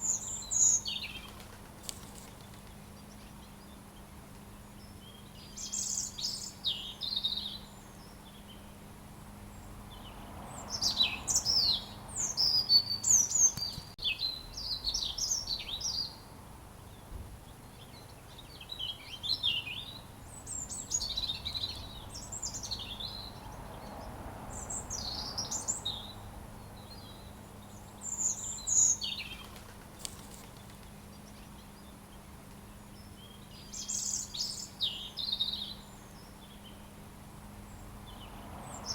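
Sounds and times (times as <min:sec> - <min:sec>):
robin singing: 0:00.0 - 0:08.8, 0:09.5 - 0:38.9.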